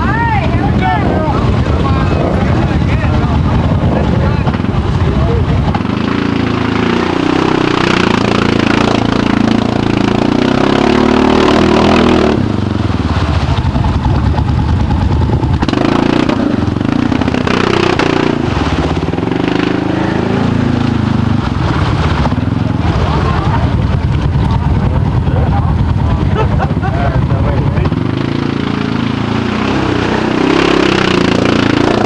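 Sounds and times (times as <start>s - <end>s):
atv engine revving: 0.0s - 32.0s.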